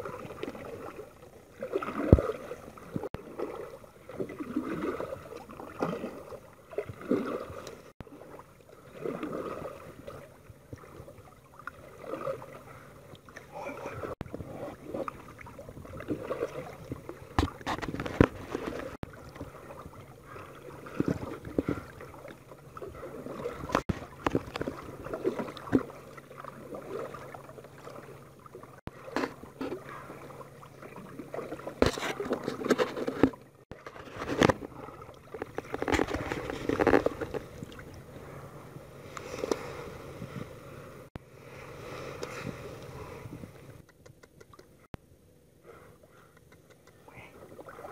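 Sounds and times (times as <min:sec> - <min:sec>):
small splashes: 0:00.0 - 0:38.1, 0:46.4 - 0:47.9
water lapping against kayak hull: 0:00.0 - 0:44.9, 0:45.6 - 0:47.9.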